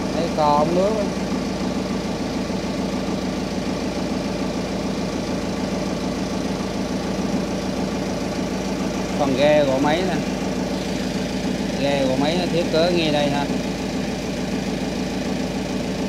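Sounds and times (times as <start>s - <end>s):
diesel generator droning: 0.0s - 16.0s.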